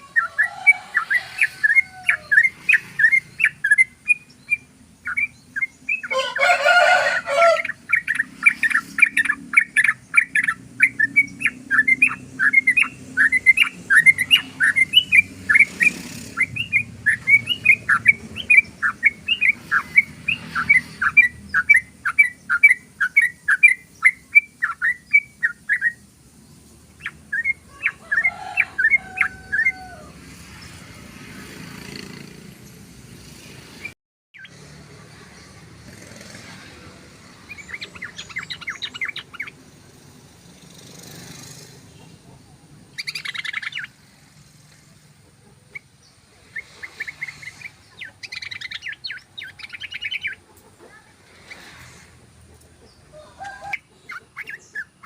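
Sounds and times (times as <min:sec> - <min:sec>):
bulbul singing rapid chirps: 0:00.0 - 0:55.0.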